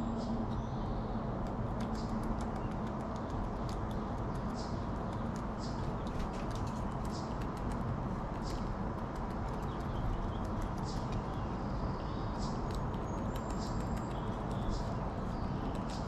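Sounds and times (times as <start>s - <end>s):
low background rumble: 0.0s - 16.0s
squirrel chewing clicks: 1.3s - 11.6s, 12.3s - 16.0s.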